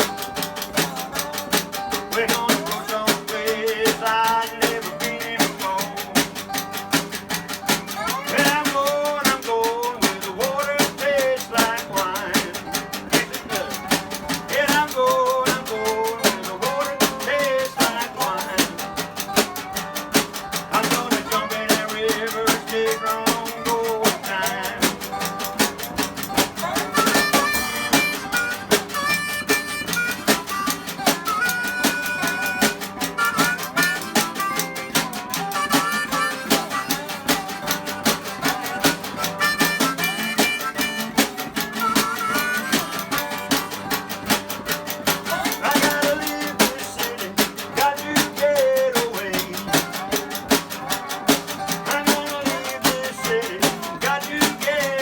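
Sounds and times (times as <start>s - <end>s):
brushed snare drum: 0.0s - 55.0s
harmonica: 0.0s - 55.0s
strummed guitar: 0.0s - 55.0s
ukulele: 0.0s - 55.0s.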